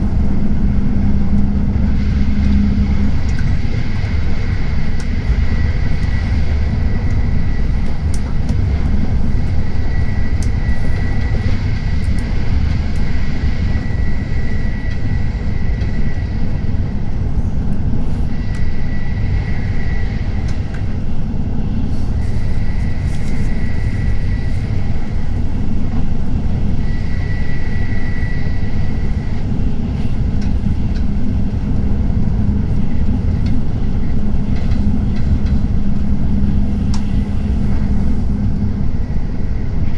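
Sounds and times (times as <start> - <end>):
train rumble and rush: 0.0 - 39.9.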